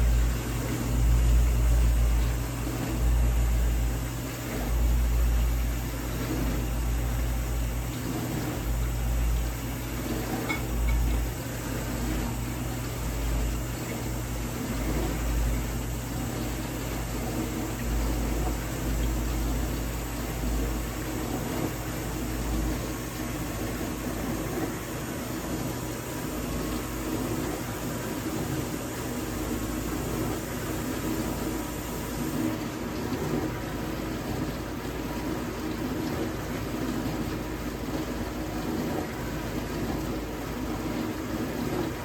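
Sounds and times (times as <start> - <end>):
dishwasher pump motor hum: 0.0 - 42.0
water churning: 0.0 - 42.0.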